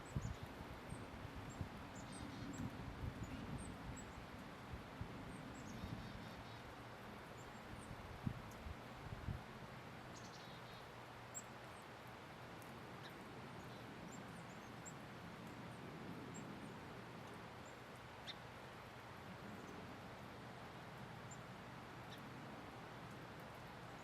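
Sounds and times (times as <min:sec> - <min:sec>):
songbirds chirping faintly: 0:00.0 - 0:24.0.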